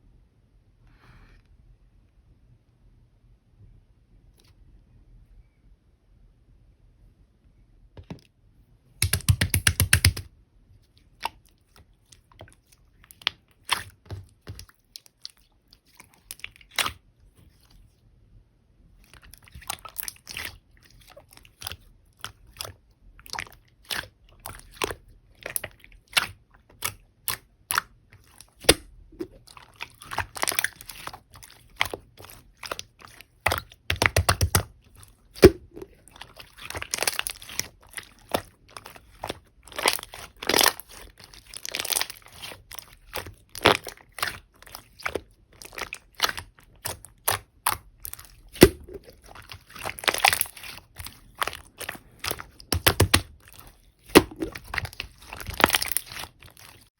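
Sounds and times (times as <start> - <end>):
rapid crackling of slime: 9.0 - 10.3, 10.9 - 18.0, 19.0 - 56.9
slime squishing with sticky clicks: 9.0 - 17.9, 19.0 - 56.9.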